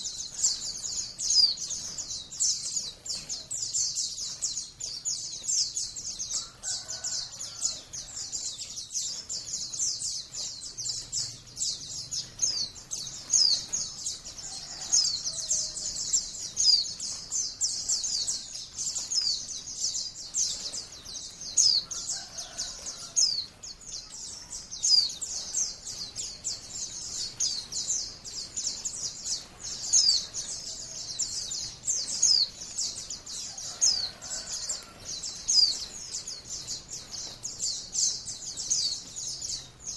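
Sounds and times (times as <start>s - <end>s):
birds singing in rapid chatter: 0.0s - 39.9s.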